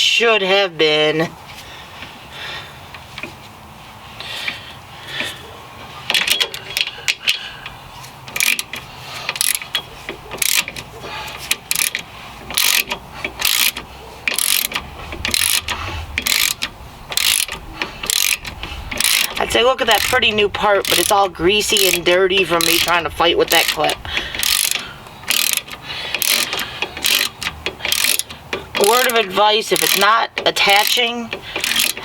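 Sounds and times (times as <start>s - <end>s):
ratchet wrench clicking: 6.1s - 32.0s.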